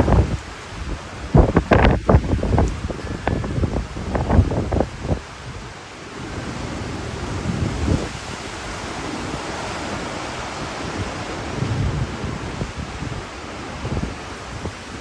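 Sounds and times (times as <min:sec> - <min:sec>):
strong wind blowing: 0:00.0 - 0:15.0
wind buffeting microphone: 0:00.0 - 0:15.0.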